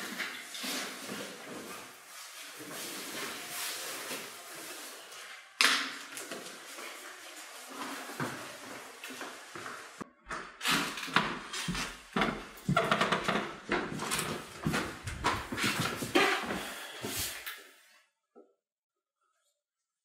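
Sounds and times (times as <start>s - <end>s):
clothing and paper rustling: 0.0s - 10.0s, 10.7s - 17.6s.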